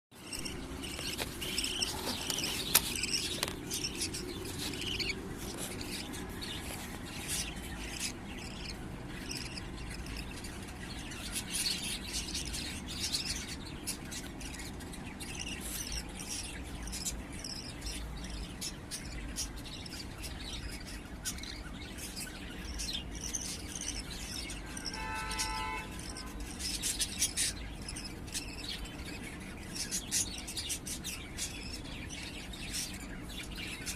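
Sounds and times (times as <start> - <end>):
long evenly pitched bird call: 0.1 - 33.9
budgerigars chirping and chattering: 0.2 - 33.9.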